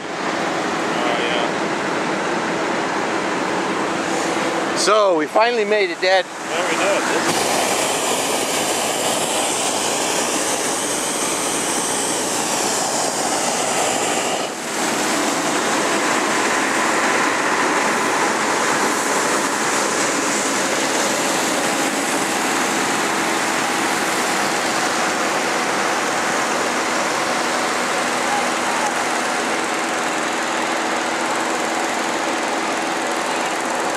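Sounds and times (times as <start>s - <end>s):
propane burner roaring: 0.0s - 33.9s.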